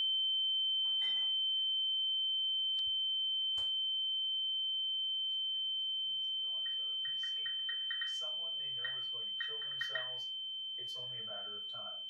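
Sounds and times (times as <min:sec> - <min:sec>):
high-pitched ringing tone: 0:00.0 - 0:12.0.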